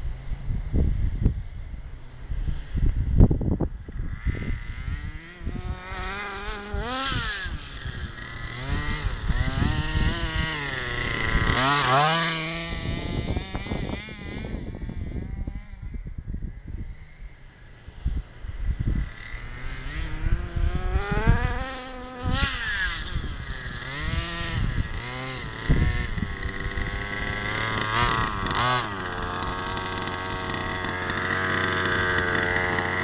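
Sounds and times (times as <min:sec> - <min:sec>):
wind rumble on microphone: 0:00.0 - 0:33.0
small two-stroke engine revving: 0:01.9 - 0:33.0.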